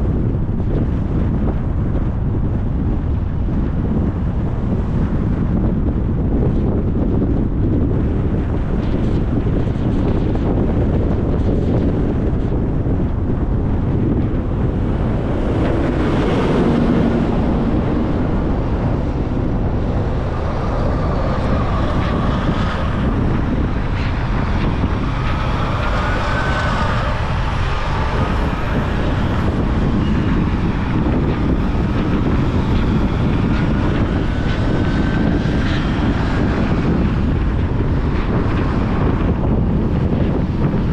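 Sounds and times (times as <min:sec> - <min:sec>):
car road and wind noise: 0:00.0 - 0:40.9
faint engine tones: 0:07.0 - 0:40.8.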